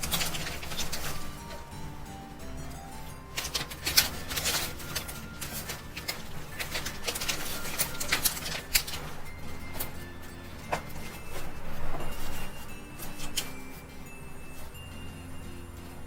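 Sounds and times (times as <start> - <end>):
paper and tape rustling: 0.0 - 14.9.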